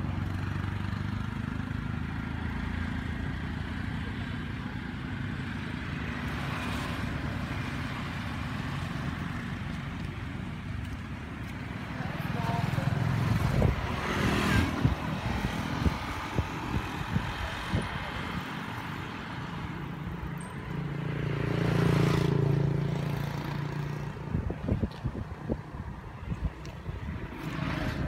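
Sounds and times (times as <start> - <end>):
road traffic: 0.0 - 28.0
vehicle engine hum passing: 0.0 - 28.0.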